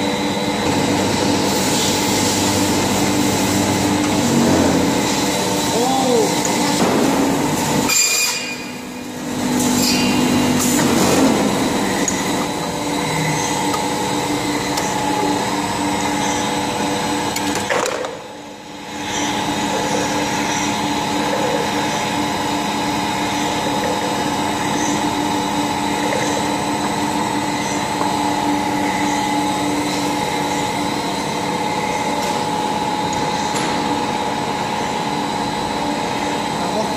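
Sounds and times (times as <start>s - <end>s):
machinery humming: 0.0s - 36.9s.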